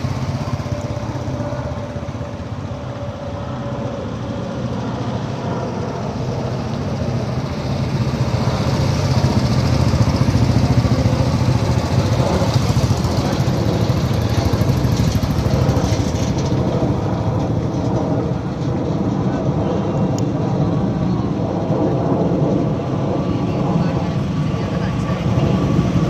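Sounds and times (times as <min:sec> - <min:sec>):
motorcycle engines passing: 0:00.0 - 0:26.0.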